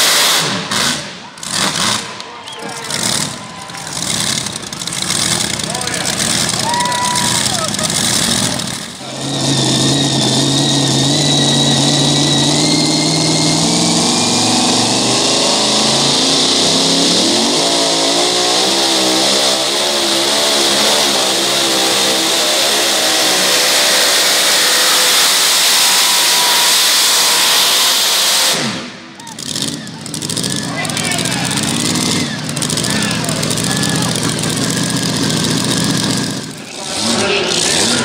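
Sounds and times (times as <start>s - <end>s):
truck engine at full throttle: 0.0s - 38.0s.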